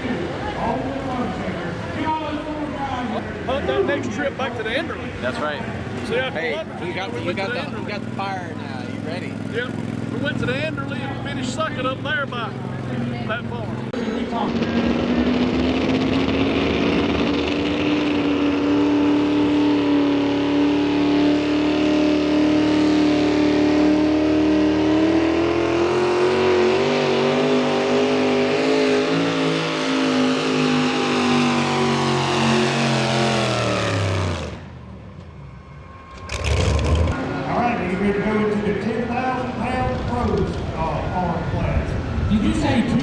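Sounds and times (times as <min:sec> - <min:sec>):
truck engine at full throttle: 0:00.0 - 0:43.0.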